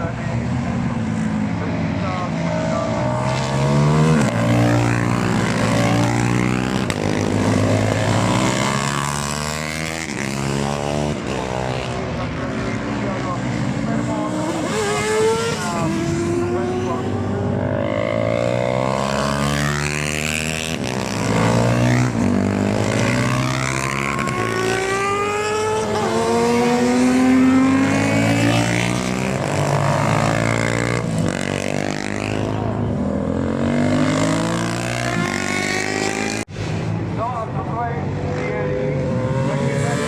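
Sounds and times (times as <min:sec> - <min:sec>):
racing motorcycles passing: 0:00.0 - 0:40.0.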